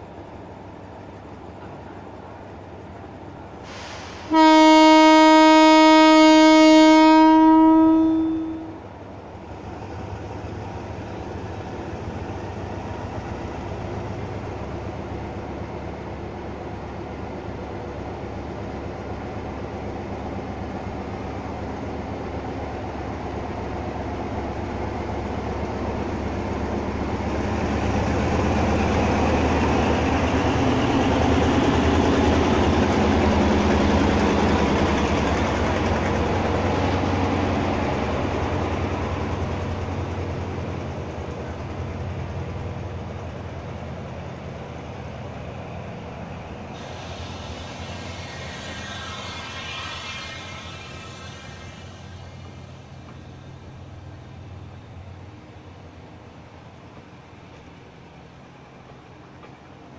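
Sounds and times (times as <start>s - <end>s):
diesel locomotive engine hum: 0.0s - 59.9s
train wheels rumbling on rails: 0.0s - 59.9s.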